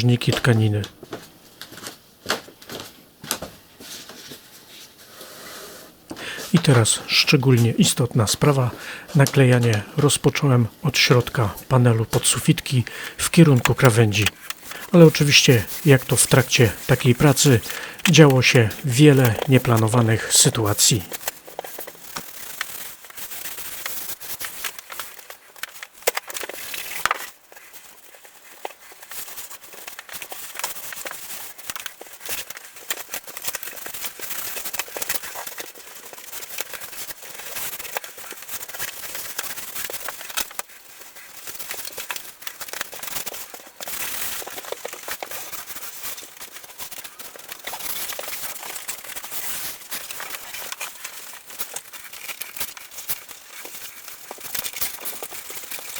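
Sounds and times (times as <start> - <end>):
fabric crackling and rustling: 0.2 - 55.9.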